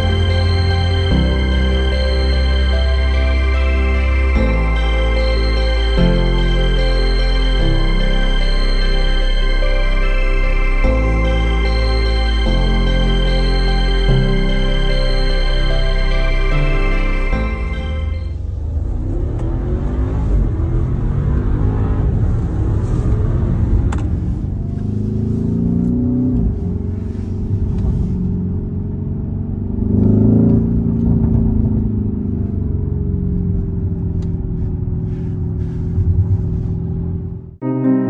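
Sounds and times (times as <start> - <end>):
road and tyre noise: 0.0 - 37.6
suv engine accelerating: 0.0 - 37.6.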